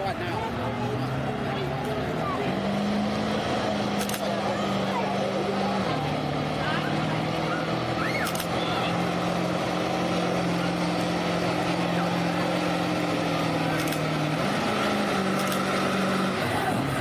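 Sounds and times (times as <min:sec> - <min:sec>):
diesel truck engine under load: 0:00.0 - 0:17.0.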